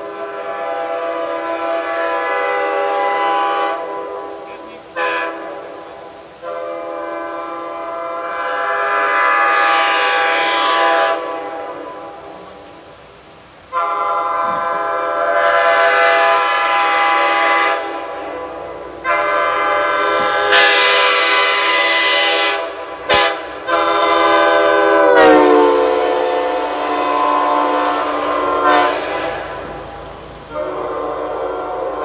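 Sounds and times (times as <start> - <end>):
locomotive air horn blasts: 0.0 - 12.7, 13.6 - 32.0.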